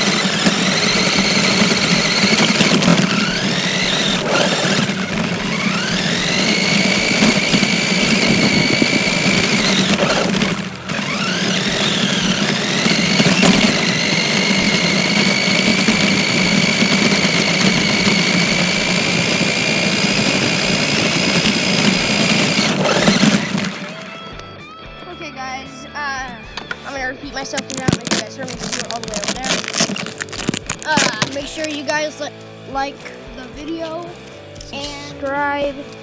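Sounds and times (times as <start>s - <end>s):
toy car motor whining: 0.0s - 24.4s, 26.8s - 32.3s.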